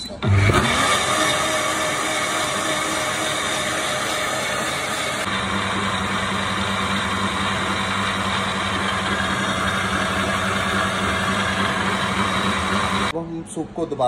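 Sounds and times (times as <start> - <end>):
blender motor whirring: 0.2 - 13.1.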